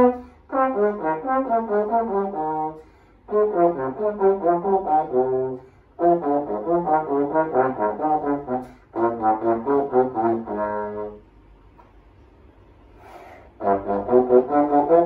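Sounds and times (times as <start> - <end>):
solo trombone: 0.0 - 11.3, 13.5 - 15.0.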